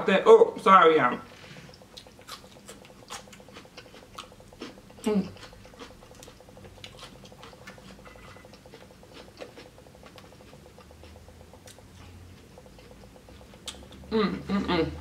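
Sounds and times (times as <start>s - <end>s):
chewing with wet mouth clicks: 1.7s - 14.1s.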